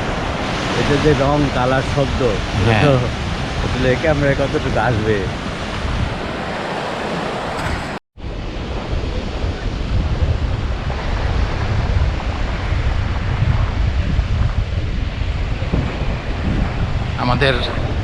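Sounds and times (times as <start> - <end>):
surf washing on beach: 0.0 - 18.0
wind buffeting microphone: 0.0 - 18.0.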